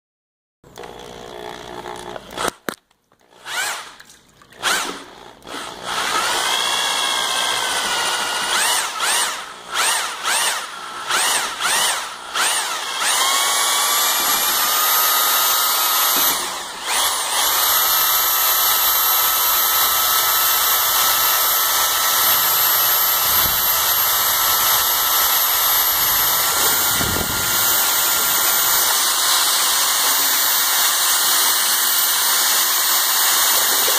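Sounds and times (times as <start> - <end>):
electric paddle mixer whining: 4.6 - 33.9.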